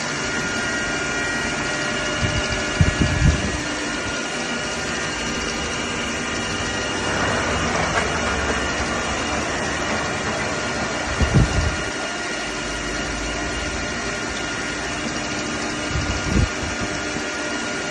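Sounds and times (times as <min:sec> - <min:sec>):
milling machine running: 0:00.0 - 0:17.9.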